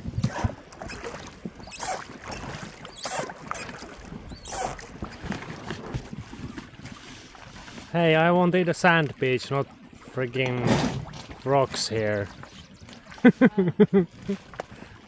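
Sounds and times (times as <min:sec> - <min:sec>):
boat splashing and scraping: 0:00.0 - 0:15.0.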